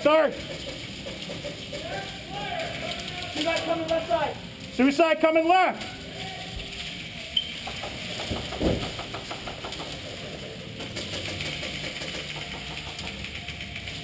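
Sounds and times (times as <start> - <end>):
steady noisy background: 0.0 - 14.0.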